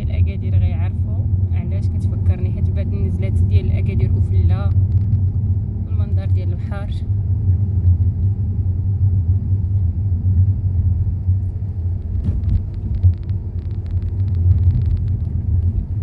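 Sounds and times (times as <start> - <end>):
car road rumble inside cabin: 0.0 - 16.0.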